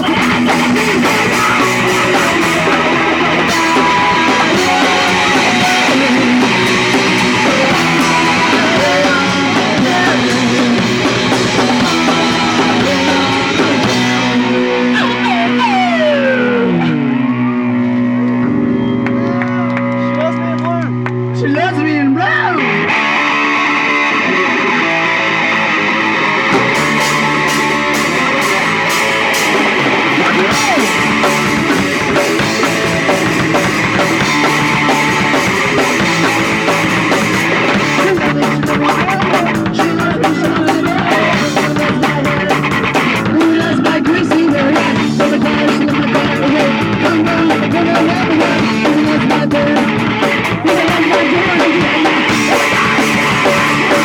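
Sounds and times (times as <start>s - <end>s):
punk rock music with singing: 0.0s - 54.0s.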